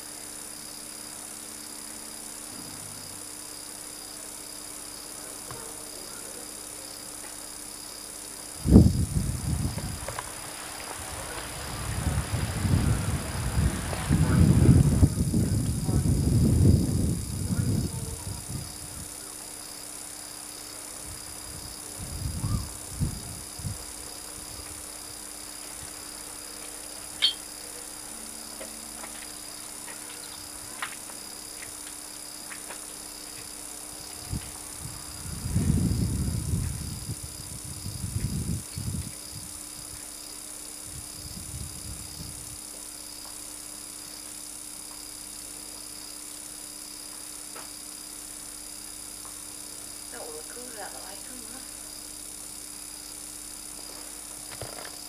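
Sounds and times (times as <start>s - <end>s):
tape hiss and hum: 0.0s - 55.0s.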